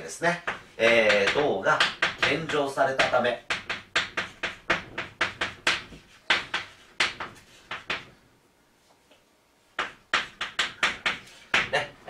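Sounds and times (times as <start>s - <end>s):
chalk strokes and taps on chalkboard: 0.4s - 8.2s, 9.8s - 11.8s.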